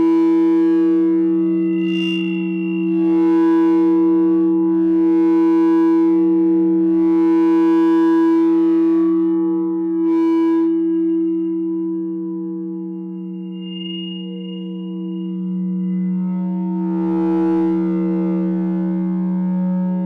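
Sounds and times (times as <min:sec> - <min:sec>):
distorted feedback drone: 0:00.0 - 0:20.0.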